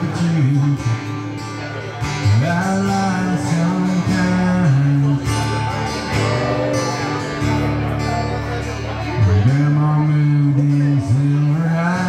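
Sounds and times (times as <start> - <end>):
electric guitar: 0.0 - 12.0
man singing: 0.0 - 12.0
strummed acoustic guitar: 0.0 - 12.0.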